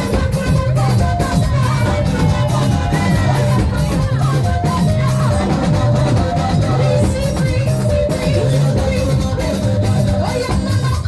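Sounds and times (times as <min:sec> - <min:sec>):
live band dance music: 0:00.0 - 0:11.0
moving bass line: 0:00.0 - 0:11.0.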